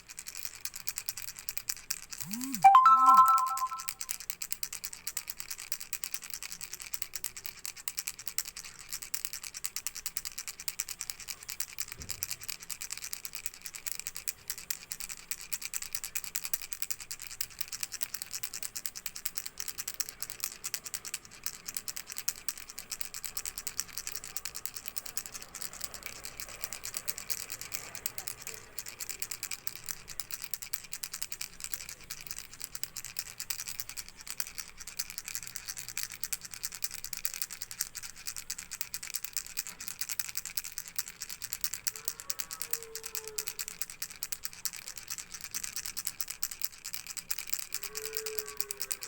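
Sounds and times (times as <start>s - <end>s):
baby's toy rattle shaken: 0.0s - 3.8s, 5.4s - 49.0s.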